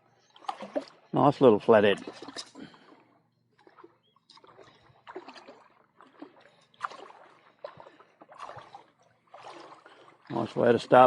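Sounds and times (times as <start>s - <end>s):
shallow water splashing: 0.1s - 11.0s.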